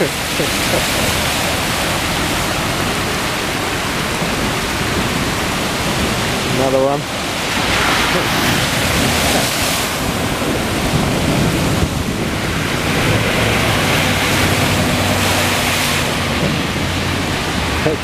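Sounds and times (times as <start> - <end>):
heavy rain: 0.0 - 18.0
truck engine hum: 0.0 - 18.0
tyres splashing through water: 0.0 - 18.0.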